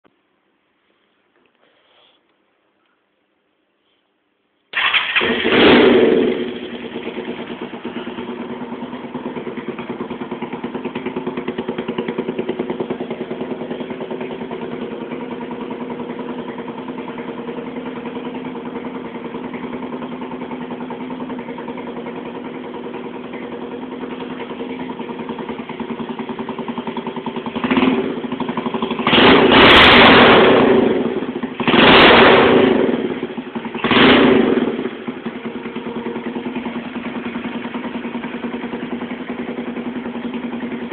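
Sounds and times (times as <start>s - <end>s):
scooter engine idling and revving: 4.7s - 40.9s.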